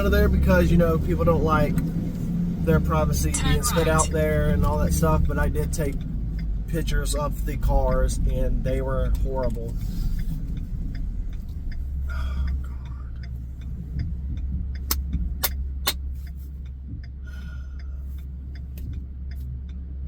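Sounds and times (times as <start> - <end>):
motor vehicle rumbling: 0.0 - 20.0
light regular ticking: 0.1 - 20.0.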